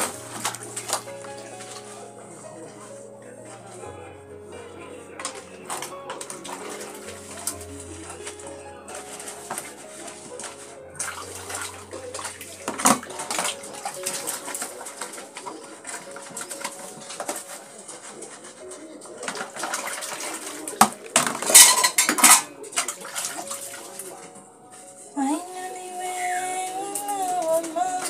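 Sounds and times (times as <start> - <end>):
cloth scrubbing dishes: 0.0 - 3.8, 4.6 - 25.1
dishes clattering: 0.0 - 4.0, 4.6 - 25.0.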